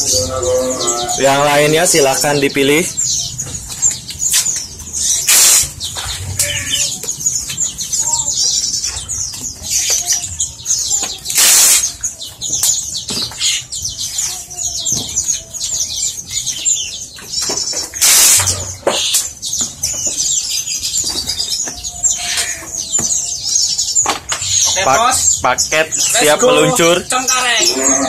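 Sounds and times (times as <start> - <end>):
caged birds chirping: 0.0 - 28.0.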